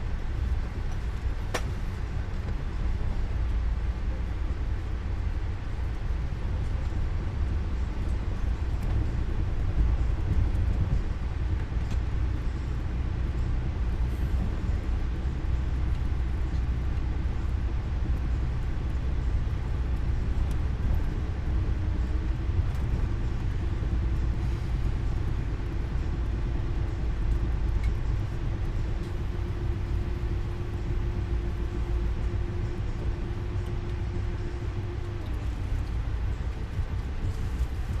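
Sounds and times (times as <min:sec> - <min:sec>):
faint steady hum: 0:00.0 - 0:38.0
train cabin rumble: 0:00.0 - 0:38.0.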